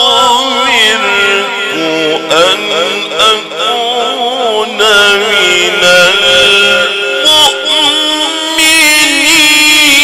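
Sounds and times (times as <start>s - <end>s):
man chanting through loudspeakers: 0.0s - 10.0s.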